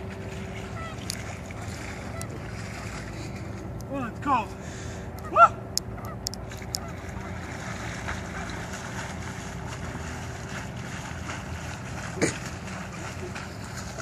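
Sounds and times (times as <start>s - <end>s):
lakeside ambience: 0.0s - 14.0s
swimmer splashing: 0.0s - 14.0s.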